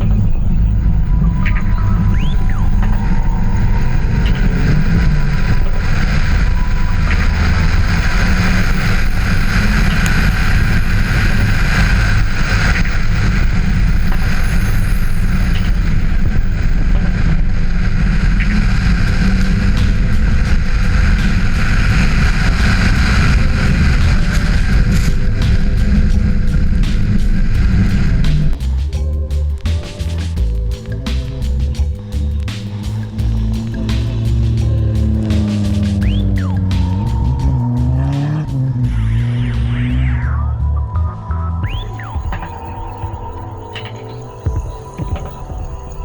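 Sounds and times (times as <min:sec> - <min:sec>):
rally car engine: 0:00.0 - 0:44.2
wind rumble on microphone: 0:00.0 - 0:46.0.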